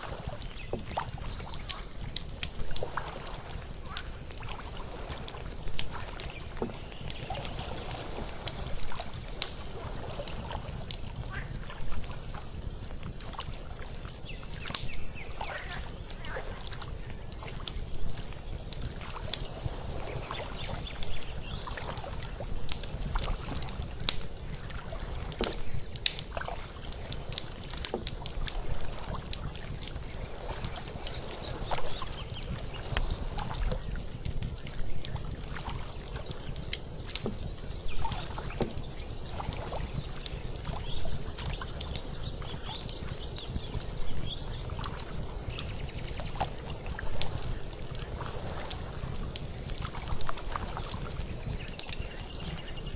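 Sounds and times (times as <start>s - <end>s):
water lapping against shore: 0.0s - 52.9s
wood fire crackling: 0.0s - 52.9s.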